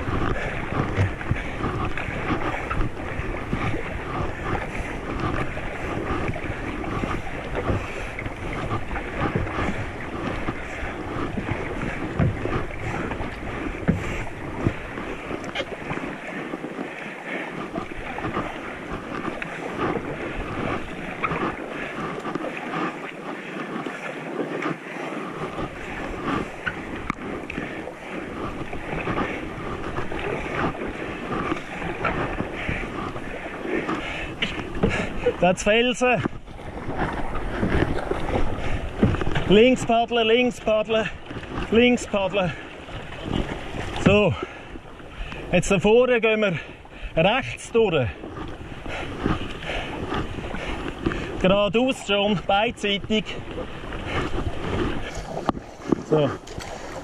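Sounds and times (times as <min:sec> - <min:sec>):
river water rushing: 0:00.0 - 0:57.0
wind on microphone: 0:00.0 - 0:57.0.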